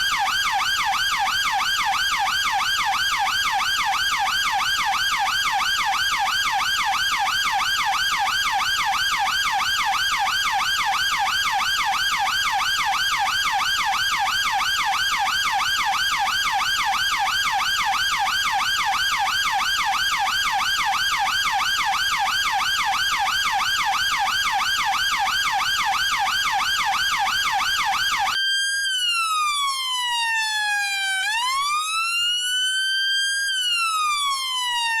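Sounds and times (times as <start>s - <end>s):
police siren wail: 0.0s - 35.0s
police siren yelp: 0.0s - 35.0s.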